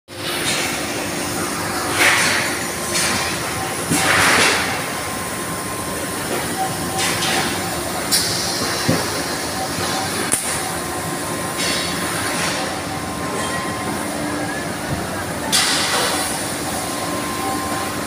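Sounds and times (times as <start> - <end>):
heavy factory machinery din: 0.1 - 18.0.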